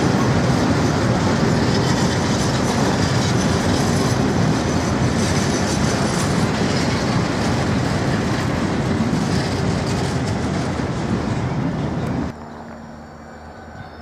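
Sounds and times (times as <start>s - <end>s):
freight wagons rolling over rails: 0.0s - 12.3s.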